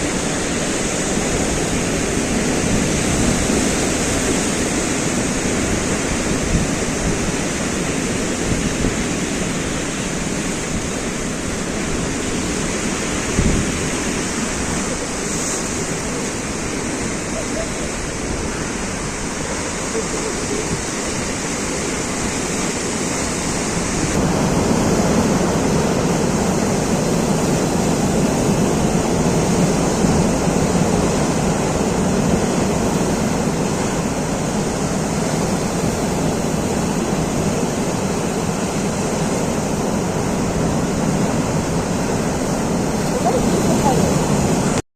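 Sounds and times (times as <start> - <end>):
sea waves washing: 0.0 - 44.8.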